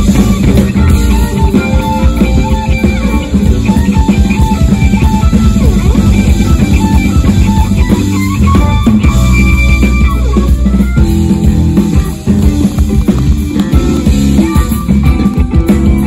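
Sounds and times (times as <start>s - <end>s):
drum kit beat: 0.0s - 16.0s
electric guitar: 0.0s - 16.0s
jazz fusion band playing: 0.0s - 16.0s.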